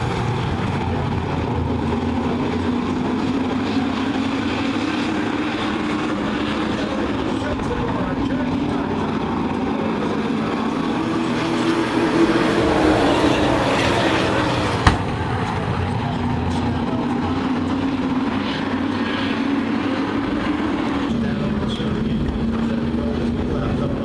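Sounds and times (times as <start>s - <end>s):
racing truck engines droning: 0.0s - 24.0s.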